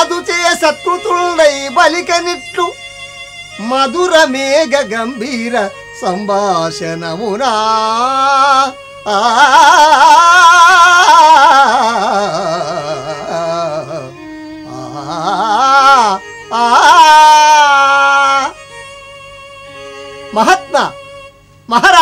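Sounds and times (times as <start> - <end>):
held accompanying drone note: 0.0 - 22.0
man singing ornamented melody: 0.0 - 22.0.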